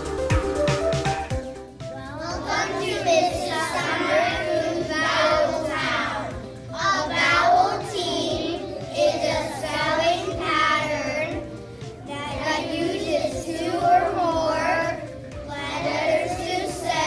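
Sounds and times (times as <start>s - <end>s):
young children singing: 1.3s - 17.0s.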